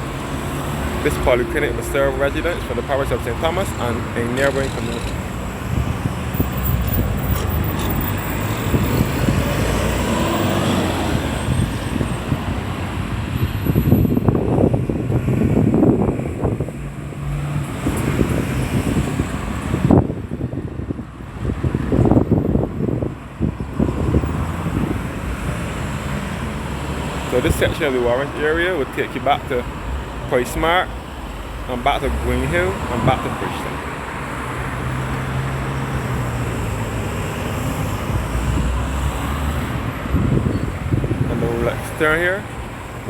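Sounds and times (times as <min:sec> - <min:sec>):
car engines and tyre noise: 0:00.0 - 0:43.0.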